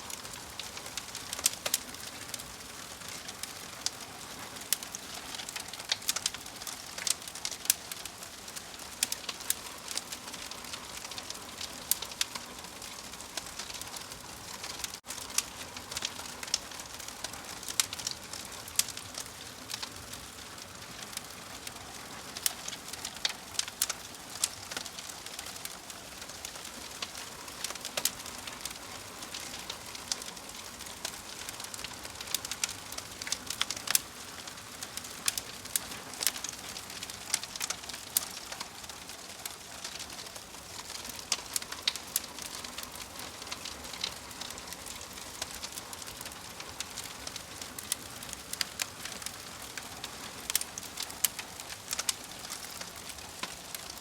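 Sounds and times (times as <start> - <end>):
soft fire hiss: 0.0 - 54.0
wood fire crackling and popping: 0.0 - 54.0.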